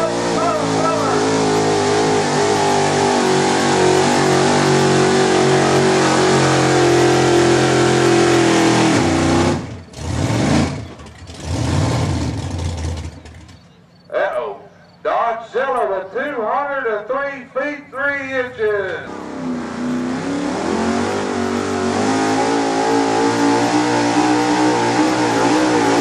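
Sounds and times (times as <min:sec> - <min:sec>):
truck engine at high revs: 0:00.0 - 0:13.8, 0:17.2 - 0:26.0.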